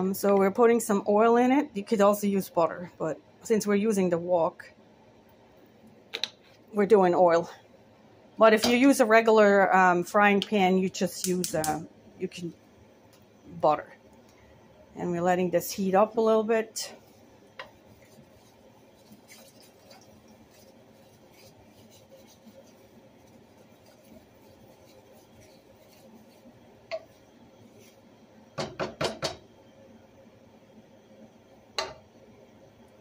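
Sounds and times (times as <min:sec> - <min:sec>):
faint steady background noise: 0:00.0 - 0:33.0.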